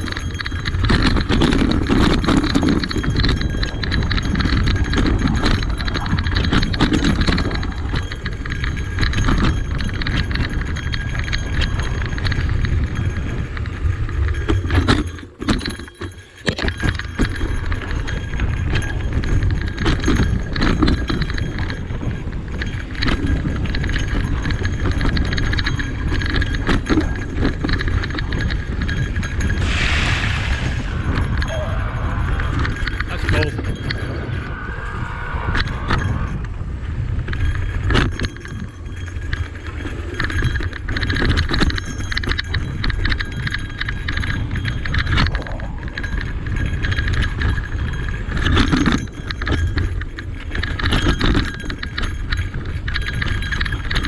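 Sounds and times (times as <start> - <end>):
bike rattling over rough trail: 0.0 - 54.0
low rumble of tyres: 0.0 - 54.0.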